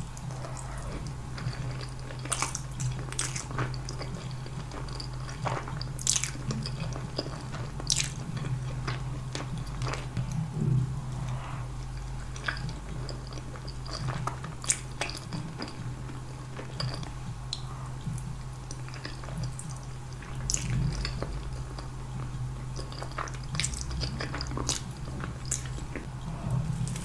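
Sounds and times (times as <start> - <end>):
chewing and slurping noodles: 0.0 - 27.0
steady low hum: 0.0 - 27.0.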